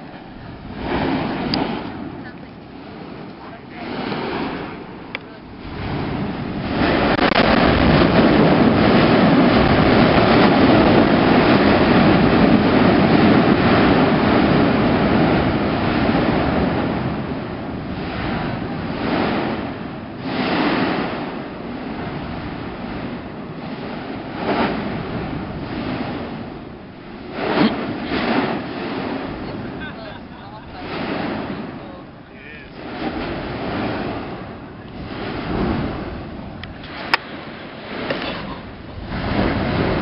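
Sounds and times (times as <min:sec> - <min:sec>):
volcano eruption roar: 0:00.0 - 0:40.0
wind buffeting microphone: 0:00.0 - 0:40.0.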